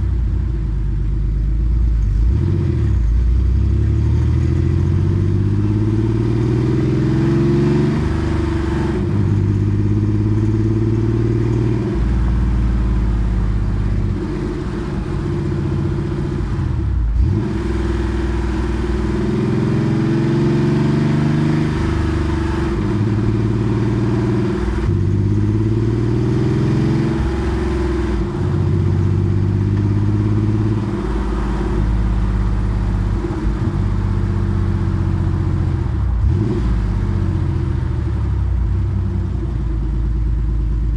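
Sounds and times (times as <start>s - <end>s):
car engine accelerating through gears: 1.9s - 40.9s.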